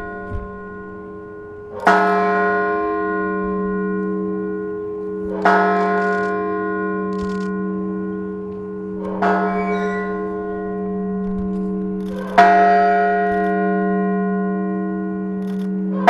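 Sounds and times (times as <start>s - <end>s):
large bell tolling: 0.0s - 16.0s.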